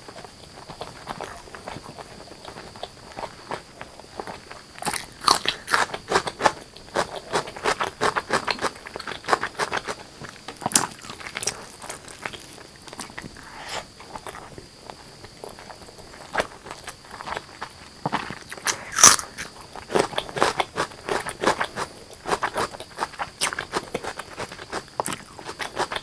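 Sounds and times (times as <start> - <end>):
person chewing food: 0.5 - 26.0.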